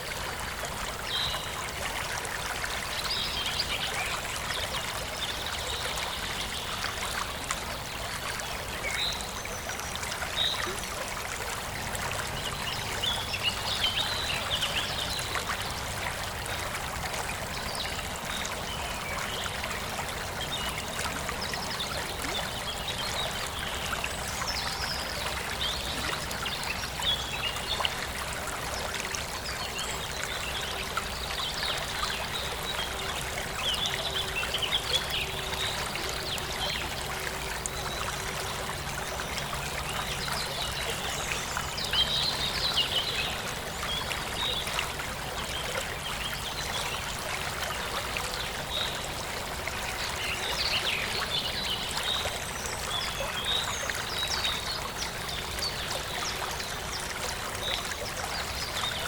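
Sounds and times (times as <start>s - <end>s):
stream trickling and splashing: 0.0s - 59.0s.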